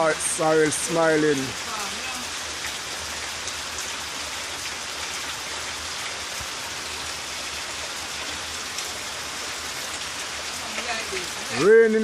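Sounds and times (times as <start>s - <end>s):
rain falling on plants: 0.0s - 12.0s.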